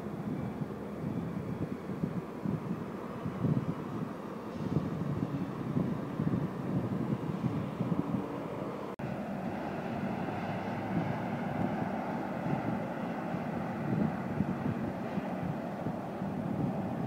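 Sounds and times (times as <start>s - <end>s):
train rumbling past: 0.0s - 17.0s
wind on microphone: 0.0s - 17.0s.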